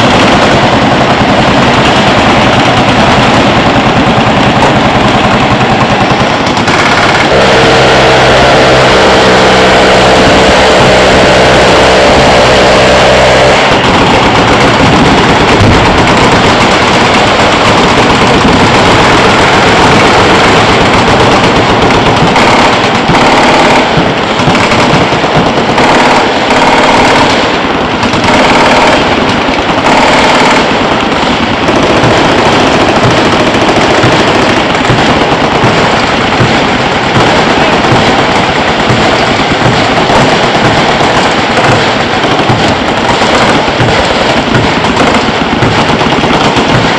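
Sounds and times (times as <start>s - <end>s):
machine guns firing: 0.0s - 46.9s.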